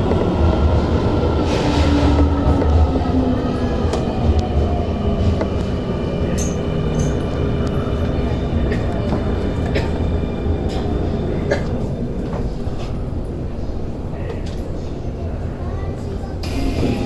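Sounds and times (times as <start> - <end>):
train wheel and track rumble: 0.0 - 17.0.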